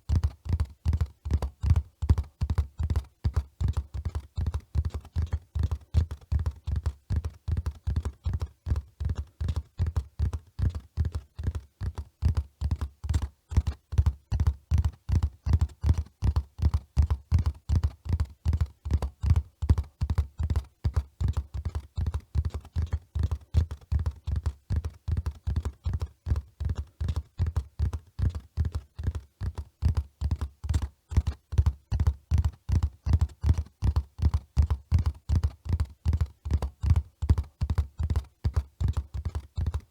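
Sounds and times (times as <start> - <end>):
horse hoofbeats: 0.1 - 39.9.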